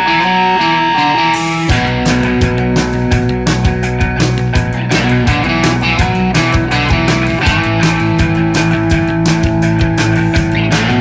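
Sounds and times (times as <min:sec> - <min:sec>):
bass guitar: 0:00.0 - 0:11.0
drums: 0:00.0 - 0:11.0
rock guitar: 0:00.0 - 0:11.0.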